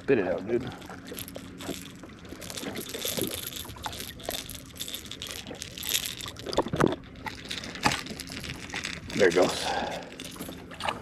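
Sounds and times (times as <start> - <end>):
hands rustling and crinkling: 0.8 - 11.0.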